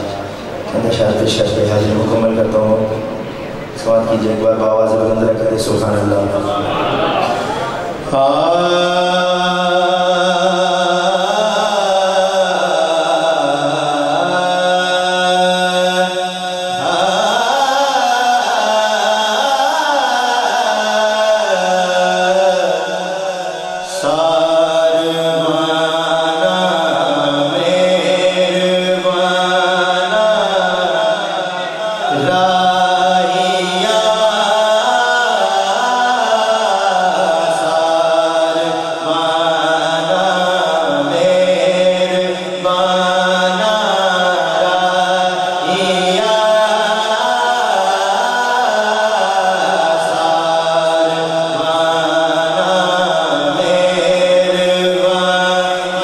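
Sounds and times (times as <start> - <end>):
man singing into a microphone: 3.8 - 56.0.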